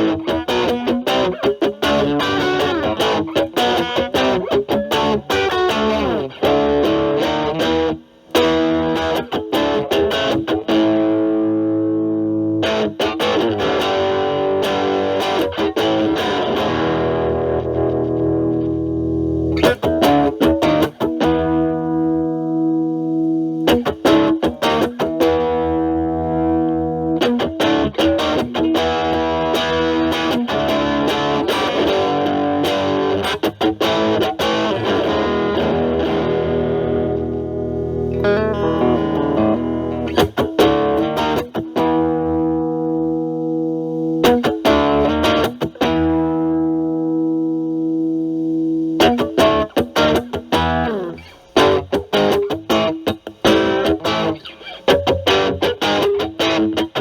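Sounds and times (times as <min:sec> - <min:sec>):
overdriven electric guitar chords: 0:00.0 - 0:57.0.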